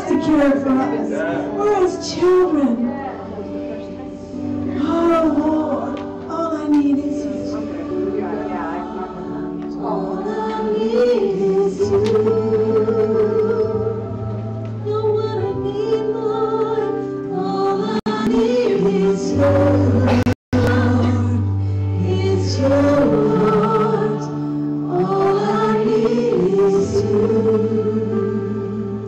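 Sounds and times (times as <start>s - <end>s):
sustained keyboard chords: 0.0s - 29.0s
women singing worship song: 0.0s - 29.0s.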